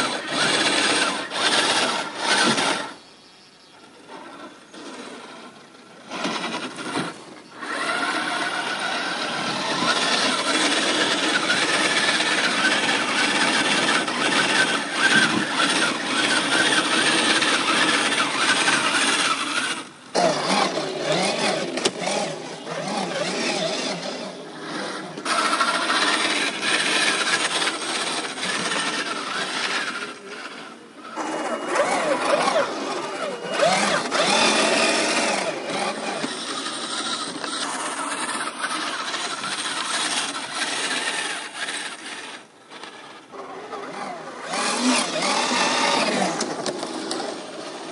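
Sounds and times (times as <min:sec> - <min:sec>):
electric motors whining: 0:00.0 - 0:47.9.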